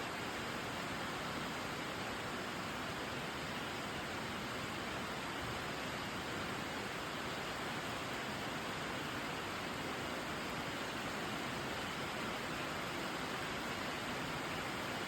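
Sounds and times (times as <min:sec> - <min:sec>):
rain drumming on a tin roof: 0:00.0 - 0:15.0.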